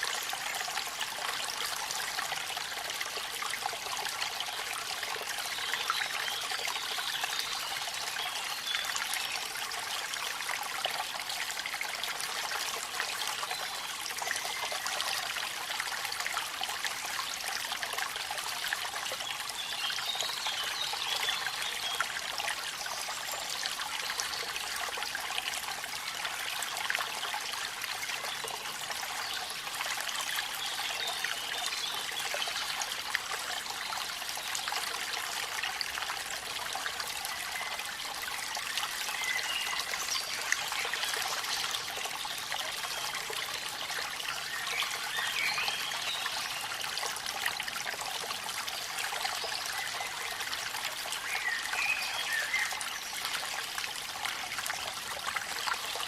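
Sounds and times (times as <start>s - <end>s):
waterfall and stream splashing: 0.0s - 56.0s.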